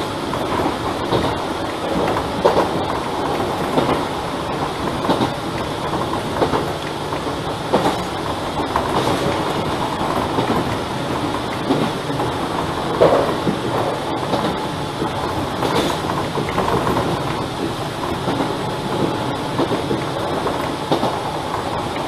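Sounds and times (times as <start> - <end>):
train running noise: 0.0 - 22.0
wheels clacking over rail joints: 0.0 - 22.0.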